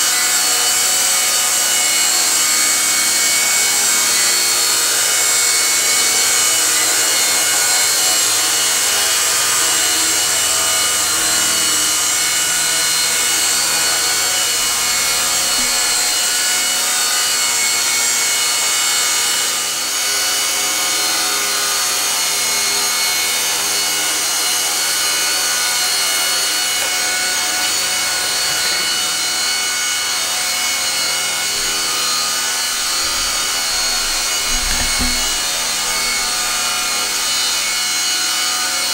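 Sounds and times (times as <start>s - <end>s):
rc helicopters whining: 0.0s - 38.9s.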